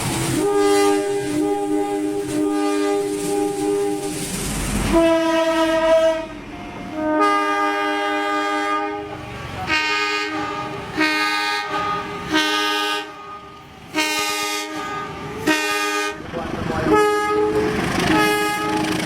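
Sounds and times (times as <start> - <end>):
locomotive horn blasts: 0.3 - 4.2, 4.9 - 16.2, 16.8 - 19.0.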